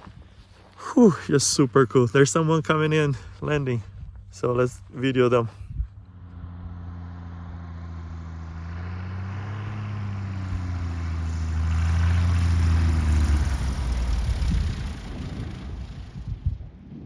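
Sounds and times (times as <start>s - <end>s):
light airplane engine drone: 0.1s - 17.0s.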